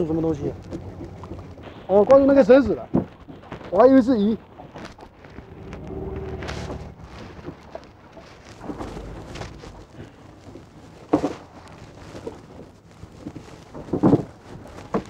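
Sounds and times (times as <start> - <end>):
choppy sea washing: 0.0 - 15.0
wind rumbling on microphone: 0.0 - 15.0.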